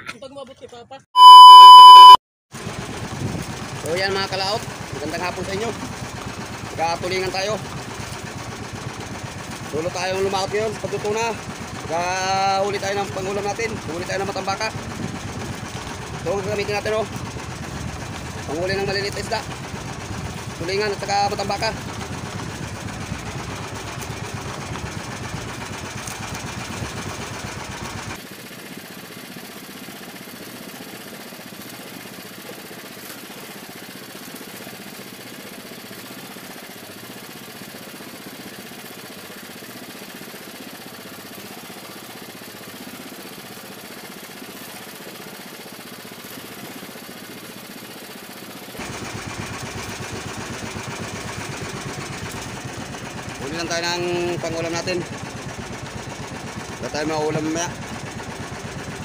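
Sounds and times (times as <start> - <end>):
small boat engine running: 1.2 - 59.0.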